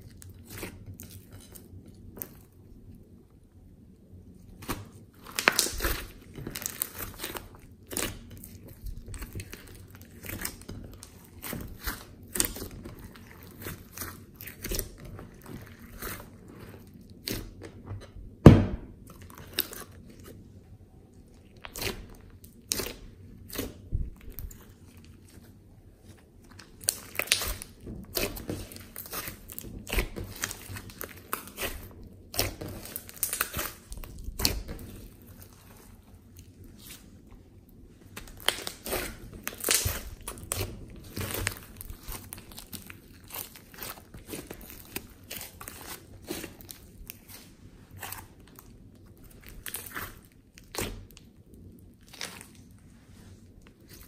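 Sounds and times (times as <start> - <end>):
wet slime squishes: 0.0 - 54.0.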